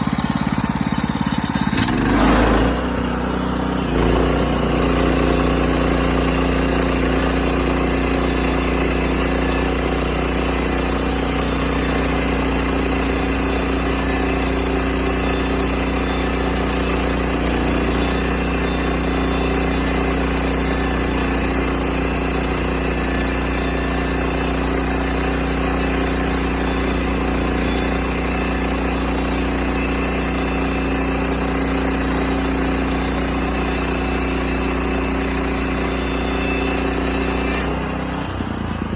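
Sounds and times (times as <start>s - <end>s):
band sawmill sawing wood: 0.0s - 38.9s.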